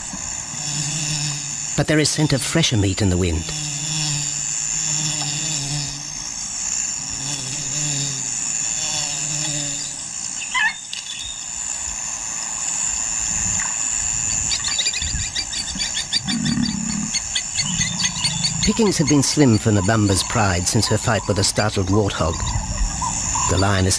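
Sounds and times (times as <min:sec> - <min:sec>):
fast rhythmic insect chirping: 0:00.0 - 0:23.9
high insect drone: 0:00.0 - 0:23.9.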